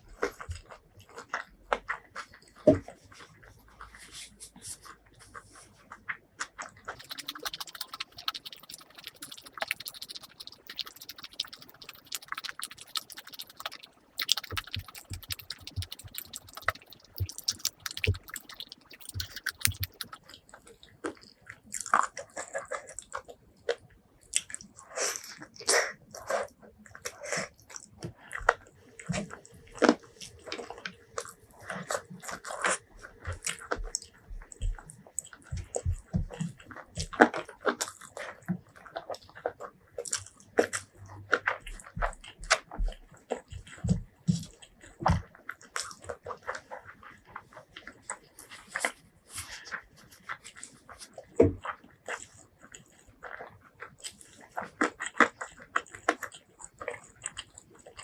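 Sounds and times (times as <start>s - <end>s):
chewing and mouth smacks: 6.0s - 58.0s.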